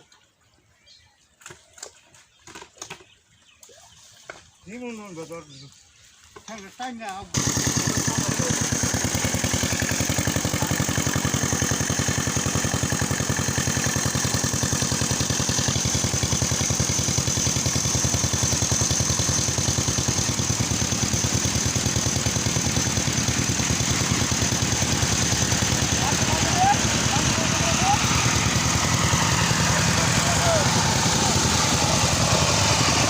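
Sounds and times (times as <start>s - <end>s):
small engine running: 6.5s - 33.0s.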